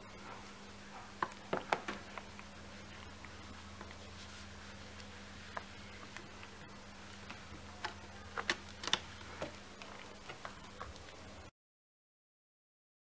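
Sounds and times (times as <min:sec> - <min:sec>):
low steady hum: 0:00.0 - 0:11.5.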